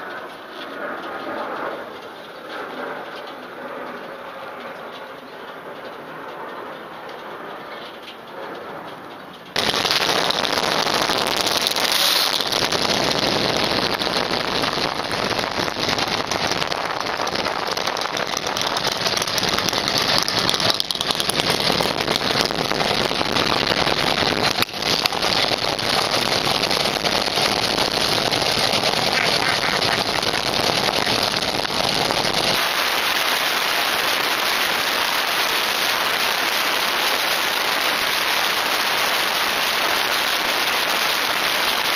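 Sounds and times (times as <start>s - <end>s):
wind and road noise roar: 0.0s - 41.9s.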